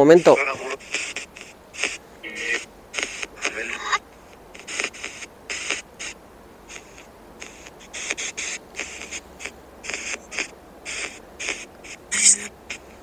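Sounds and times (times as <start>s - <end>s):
choppy static bursts from phone: 0.0s - 13.0s.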